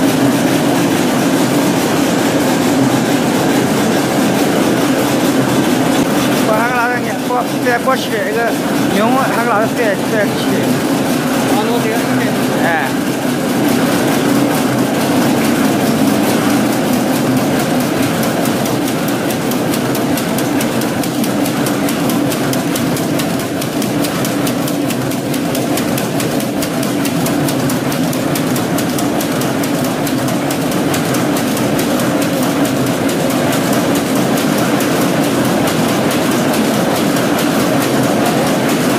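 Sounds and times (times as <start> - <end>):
loom clattering: 0.0 - 38.9
machine hum: 0.0 - 38.9.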